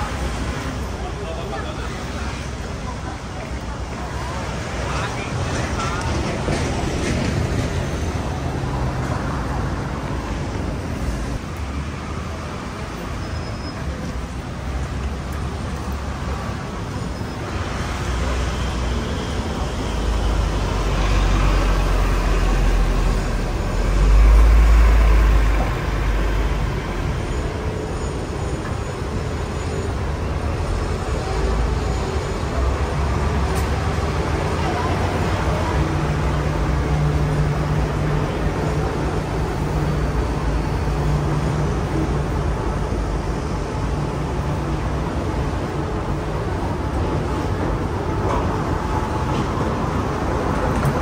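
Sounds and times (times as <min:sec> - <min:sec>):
city road traffic: 0:00.0 - 0:51.0
heavy vehicle engine rumble: 0:00.0 - 0:51.0.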